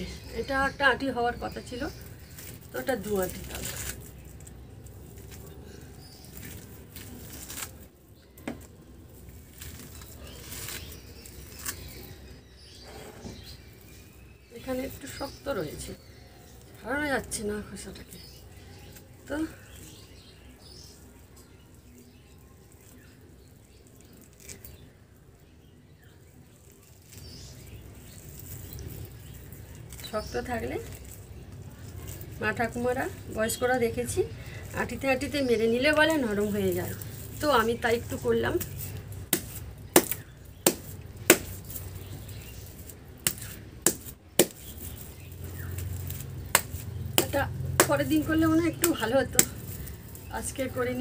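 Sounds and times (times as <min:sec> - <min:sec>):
seeds knocking together: 0:00.1 - 0:51.0.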